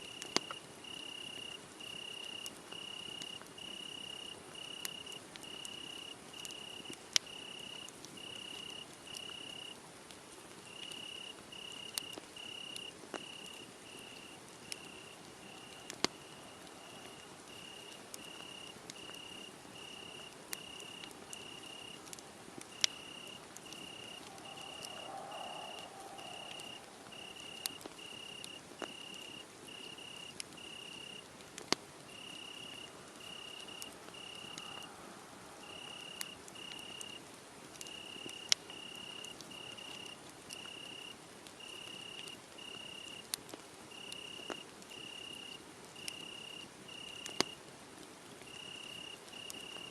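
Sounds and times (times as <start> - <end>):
crickets chirping: 0.0 - 9.8, 10.7 - 31.3, 32.1 - 43.3, 43.9 - 47.6, 48.4 - 49.9
crackling wood fire: 0.0 - 49.9
fire popping: 0.1 - 35.0, 35.6 - 45.4, 46.0 - 47.6.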